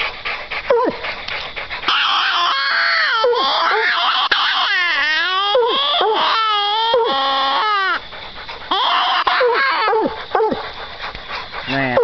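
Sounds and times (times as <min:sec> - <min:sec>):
hounds howling: 0:00.5 - 0:12.0.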